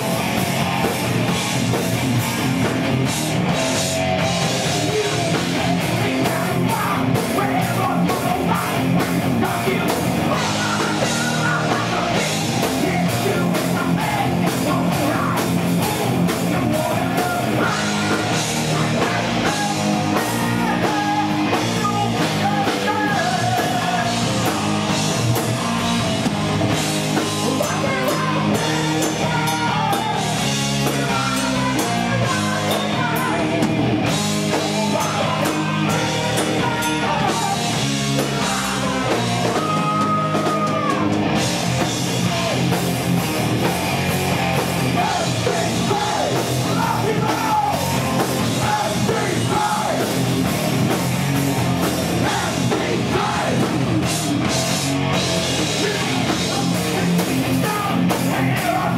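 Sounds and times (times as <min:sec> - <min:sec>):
heavy metal band playing: 0:00.0 - 0:58.9
singer belting: 0:03.6 - 0:42.8, 0:43.9 - 0:58.9.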